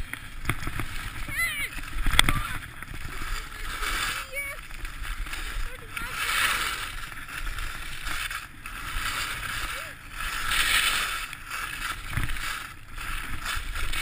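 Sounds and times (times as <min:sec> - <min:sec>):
skis scraping over snow: 0:00.0 - 0:14.0.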